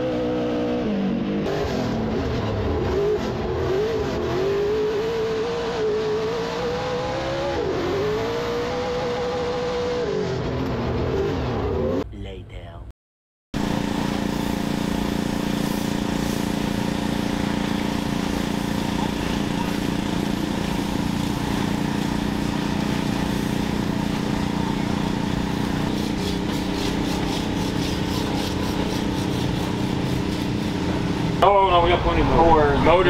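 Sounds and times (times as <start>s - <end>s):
engine running: 0.0s - 12.0s, 13.6s - 33.0s.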